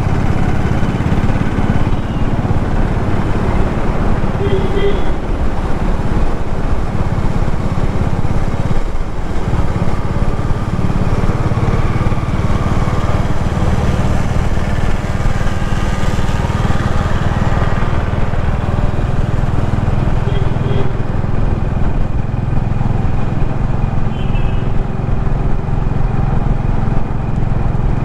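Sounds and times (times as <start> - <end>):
road noise: 0.0 - 28.0
vehicle engine running: 0.0 - 28.0.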